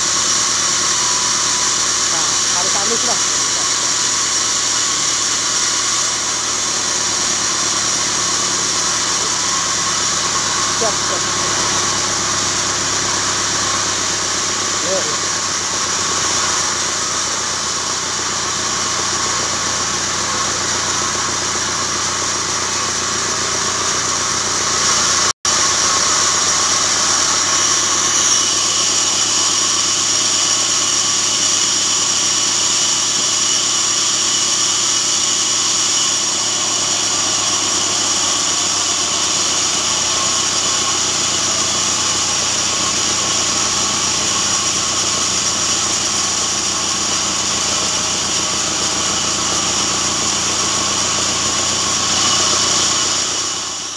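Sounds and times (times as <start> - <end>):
band saw whining: 0.0 - 53.9.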